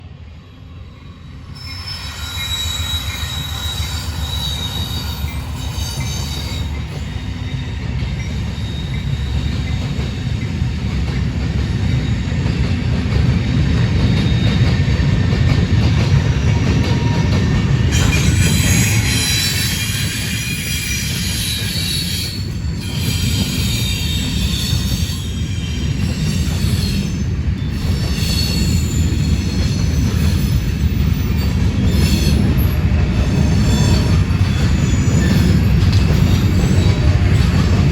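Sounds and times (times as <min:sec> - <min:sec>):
freight train wheels rumbling: 0:00.0 - 0:37.9
train wheels squealing: 0:00.3 - 0:12.7, 0:13.8 - 0:37.9.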